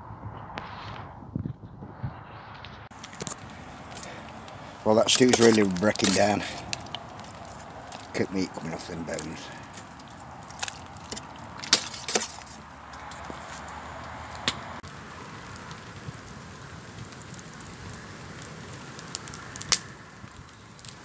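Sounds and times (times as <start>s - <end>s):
fire popping: 0.0s - 21.0s
campfire burning: 0.4s - 21.0s.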